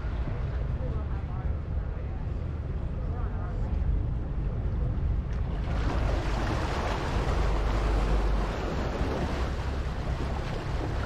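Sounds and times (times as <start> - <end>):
churning water: 0.0 - 11.0
ferry engine low rumble: 0.0 - 11.0
wind: 0.0 - 11.0.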